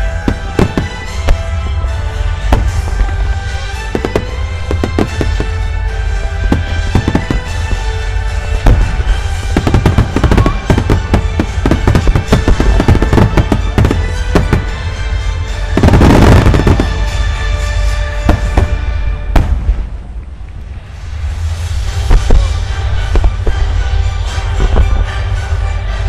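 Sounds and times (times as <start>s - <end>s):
fireworks bursting: 0.0s - 20.2s, 21.0s - 25.6s
music playing: 0.0s - 26.0s.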